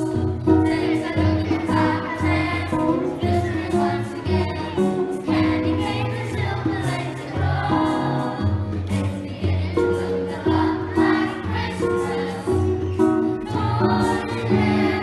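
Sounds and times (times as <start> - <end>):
choir singing a carol: 0.0 - 15.0
instrumental accompaniment: 0.0 - 15.0.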